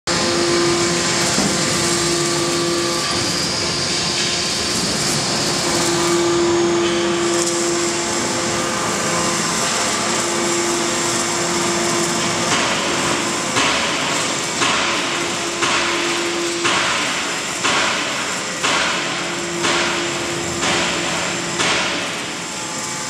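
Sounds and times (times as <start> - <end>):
machine hum and hiss: 0.1 - 23.0
mid-pitched whine: 0.1 - 23.0.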